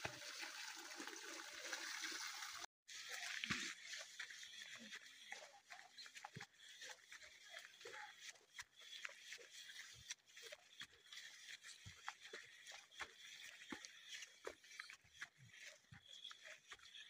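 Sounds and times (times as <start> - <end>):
footsteps on muddy path: 3.0 - 17.0.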